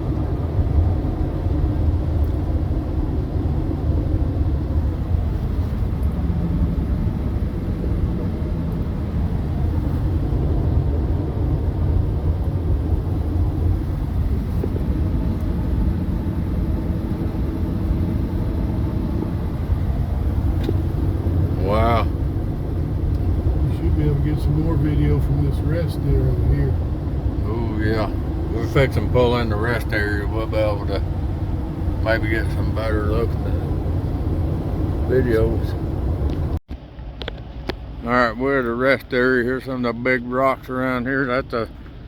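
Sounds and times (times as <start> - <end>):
road and engine noise in car cabin: 0.0 - 42.0.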